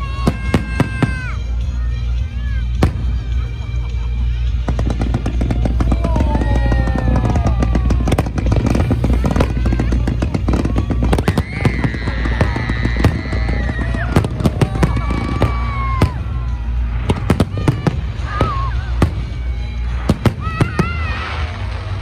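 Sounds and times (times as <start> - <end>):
fireworks bursting and crackling: 0.0 - 22.0
music with held tones: 0.0 - 22.0
low rumble: 1.4 - 22.0.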